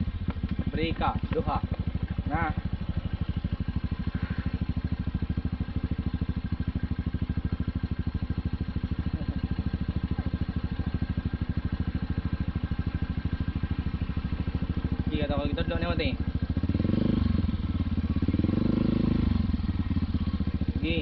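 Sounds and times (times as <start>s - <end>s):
scooter engine idling: 0.0s - 21.0s.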